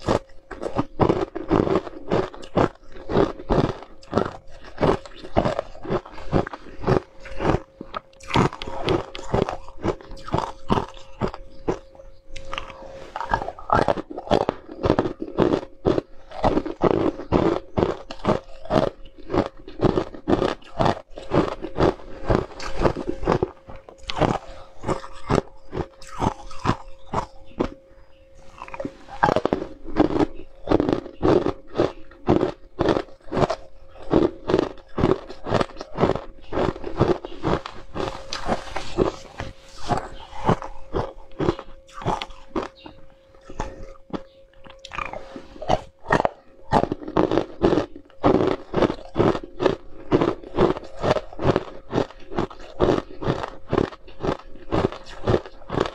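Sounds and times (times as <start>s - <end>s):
ice cubes crunched between teeth: 0.0s - 11.8s, 12.4s - 27.8s, 28.5s - 55.9s
faint steady hum: 0.0s - 55.9s.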